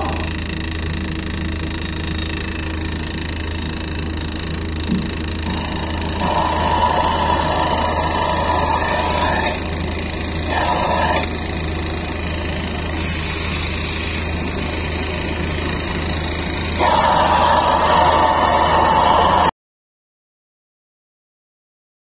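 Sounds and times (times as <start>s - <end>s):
vacuum pump humming: 0.0s - 19.5s.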